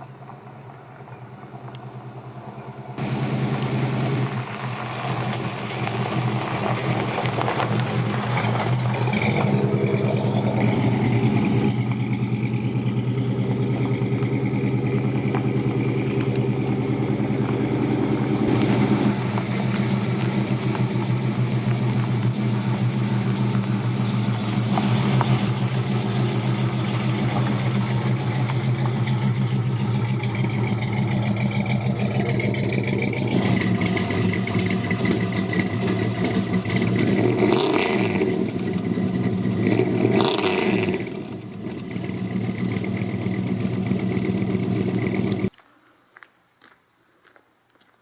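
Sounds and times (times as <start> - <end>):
engine idling and revving: 0.0 - 45.5.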